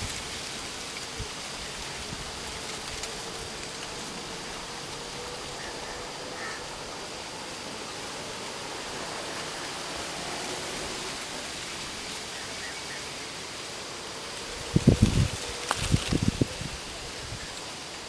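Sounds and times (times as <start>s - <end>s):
rushing outdoor air: 0.0s - 18.0s.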